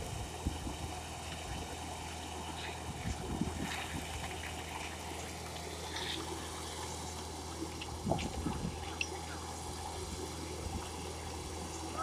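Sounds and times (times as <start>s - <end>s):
mixer engine hum: 0.0s - 12.0s.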